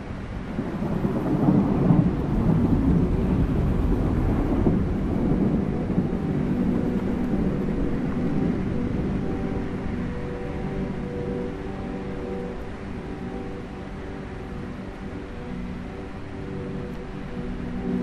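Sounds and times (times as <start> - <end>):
low rumbling noise: 0.0 - 18.0
steady drone tones: 0.0 - 18.0.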